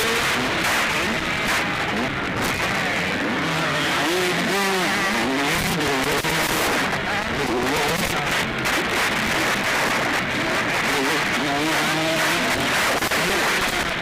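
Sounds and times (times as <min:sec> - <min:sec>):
constant rough noise: 0:00.0 - 0:14.0
motocross bike engines revving: 0:00.0 - 0:14.0.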